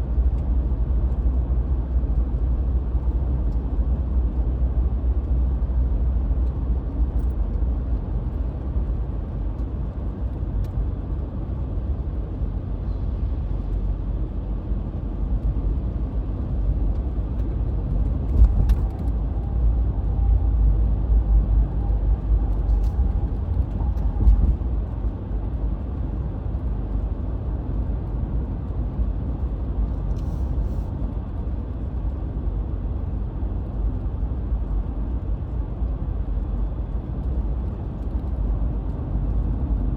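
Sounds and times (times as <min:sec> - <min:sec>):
car driving from inside cabin: 0:00.0 - 0:39.9.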